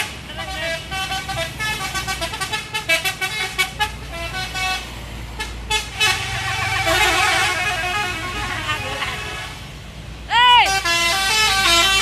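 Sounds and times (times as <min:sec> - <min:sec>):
musical bus horn tune: 0:00.0 - 0:09.7, 0:10.6 - 0:12.0
bus engine running: 0:00.0 - 0:12.0.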